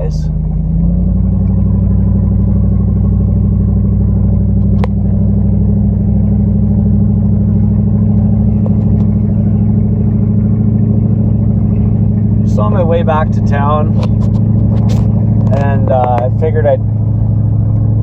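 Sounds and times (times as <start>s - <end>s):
pickup truck engine running: 0.0s - 18.0s.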